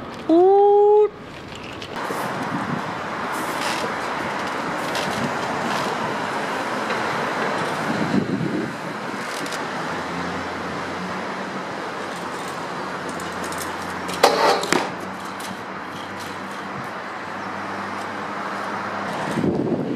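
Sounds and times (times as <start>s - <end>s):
road traffic noise: 0.0s - 19.9s.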